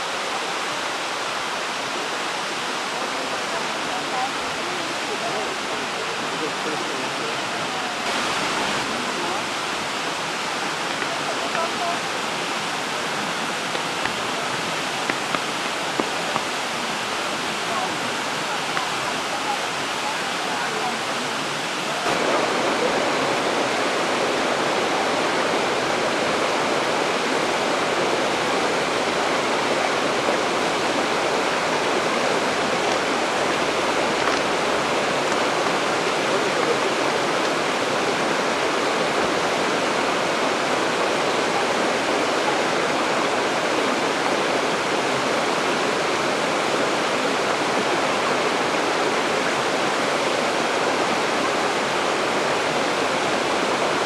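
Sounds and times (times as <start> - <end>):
waterfall pouring onto rock: 0.1 - 48.1.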